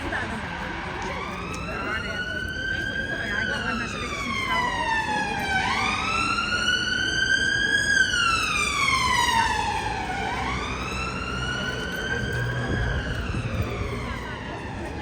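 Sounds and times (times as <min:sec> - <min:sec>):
emergency vehicle siren wailing: 0:00.0 - 0:15.0.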